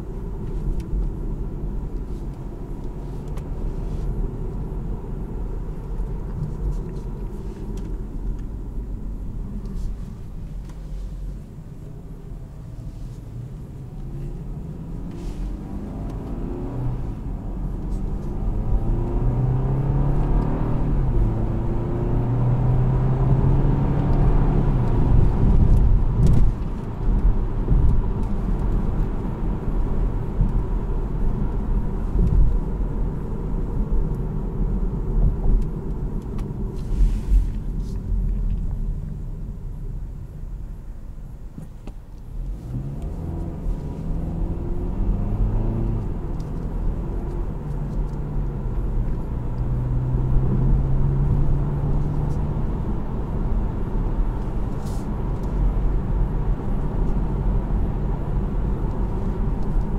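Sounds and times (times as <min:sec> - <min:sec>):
car engine accelerating: 0:00.0 - 0:39.6, 0:42.1 - 0:59.9
road and tyre noise: 0:00.0 - 0:59.9.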